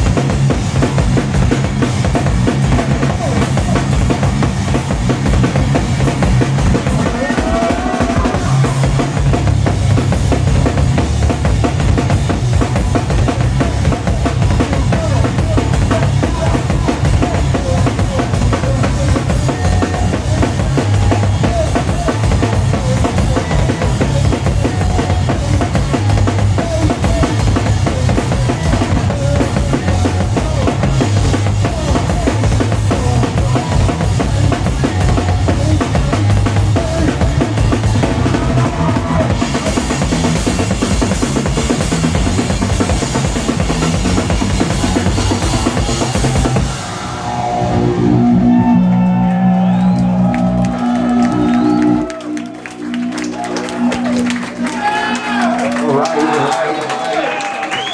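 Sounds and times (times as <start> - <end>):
distorted bass guitar: 0.0 - 55.5
drum kit beats: 0.0 - 57.9.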